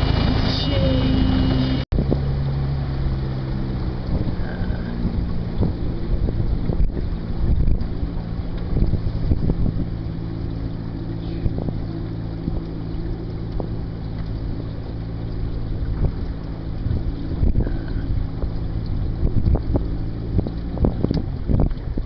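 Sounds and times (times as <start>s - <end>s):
outboard motor running: 0.0s - 22.0s
wind buffeting microphone: 0.0s - 22.0s.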